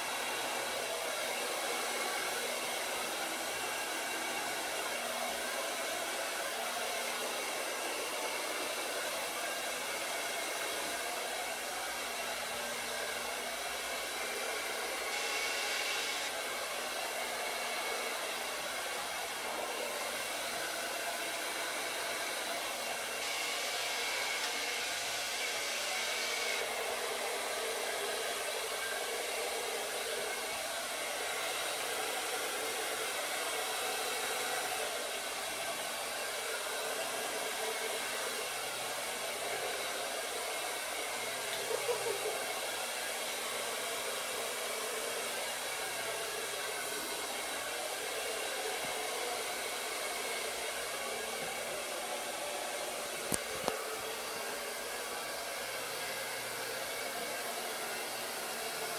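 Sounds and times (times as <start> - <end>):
hair dryer blowing: 0.0 - 58.9.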